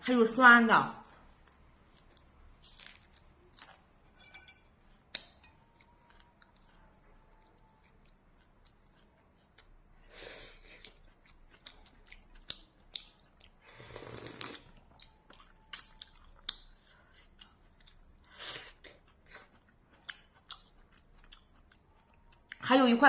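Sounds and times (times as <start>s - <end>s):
person chewing crunchy food: 1.4s - 3.9s, 4.9s - 9.9s, 10.7s - 22.6s.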